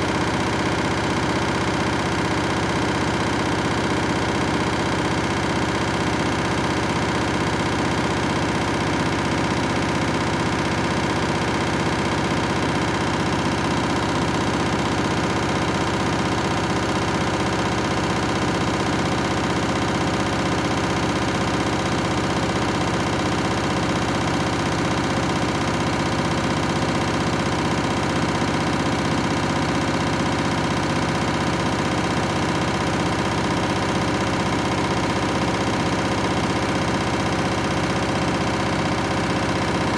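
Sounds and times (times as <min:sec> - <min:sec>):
washing machine spinning with whine: 0:00.0 - 0:39.9.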